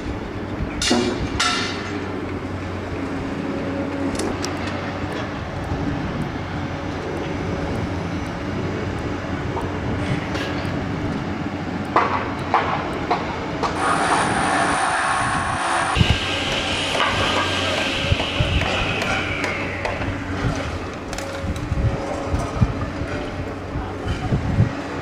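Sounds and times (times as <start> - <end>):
construction machinery engine drone: 0.0 - 25.0.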